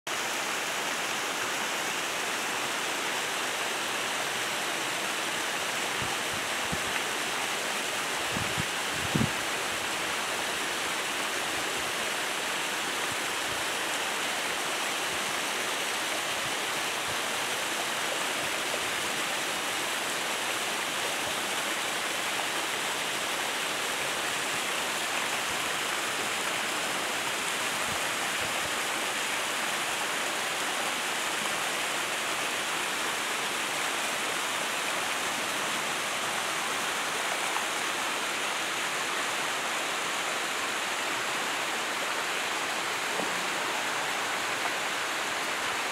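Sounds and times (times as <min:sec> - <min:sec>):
running water rushing: 0:00.1 - 0:45.9.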